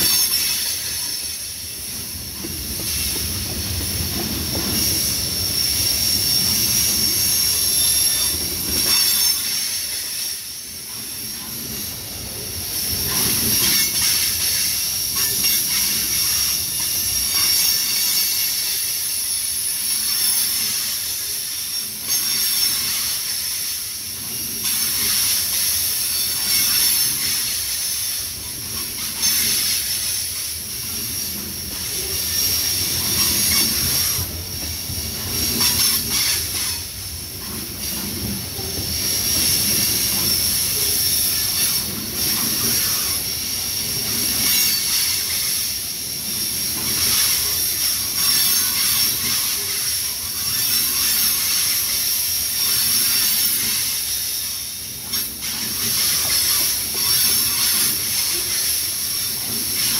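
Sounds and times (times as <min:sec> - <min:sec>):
train wheels squealing on rails: 0:00.0 - 0:59.9.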